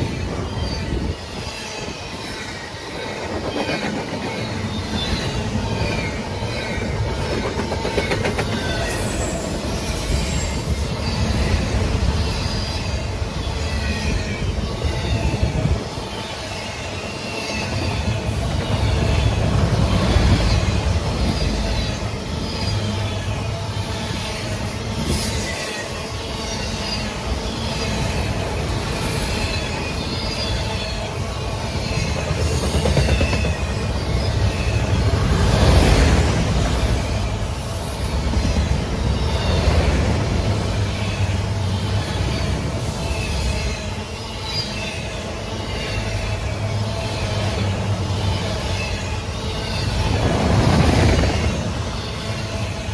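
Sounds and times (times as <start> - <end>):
high wheel squeals: 0.0 - 52.9
train wheels rumbling on rail: 0.0 - 52.9.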